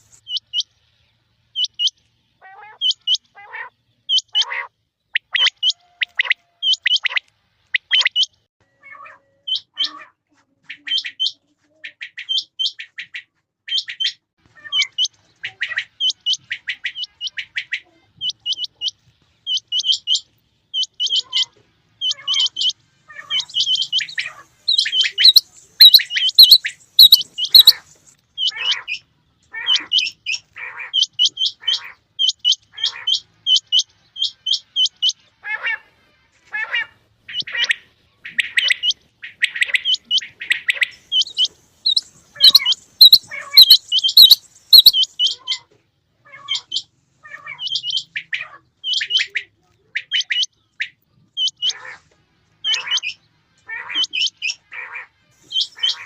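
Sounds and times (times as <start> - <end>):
quail calling: 1.6 - 45.7, 46.3 - 52.0, 52.6 - 56.0.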